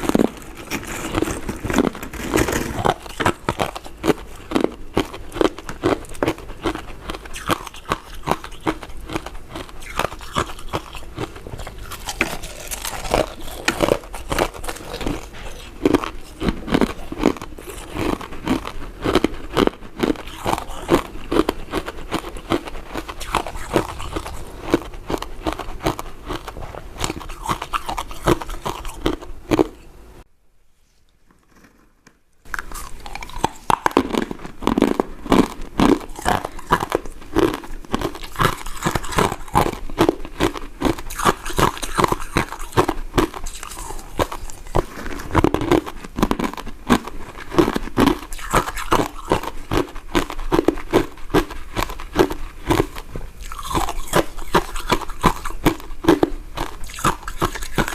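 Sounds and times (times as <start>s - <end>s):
person chewing crunchy mints: 0.0s - 30.0s, 32.4s - 57.9s.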